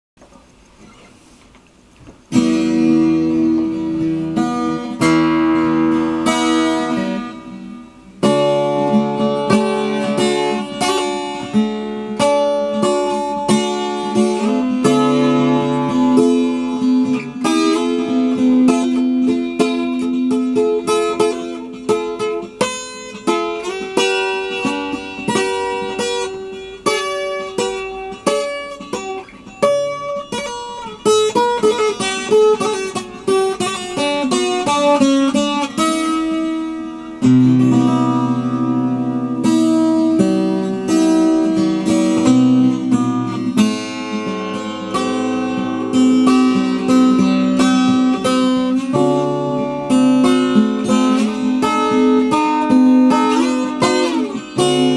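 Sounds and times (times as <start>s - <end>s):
acoustic guitar music: 0.2s - 54.9s.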